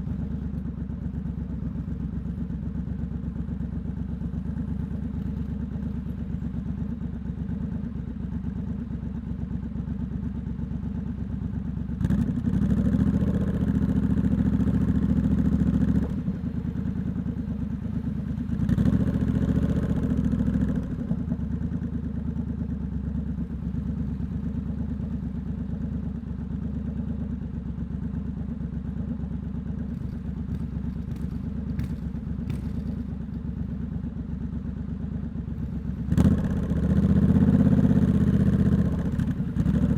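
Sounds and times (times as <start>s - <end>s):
motorcycle engine with loud exhaust: 0.0s - 39.9s.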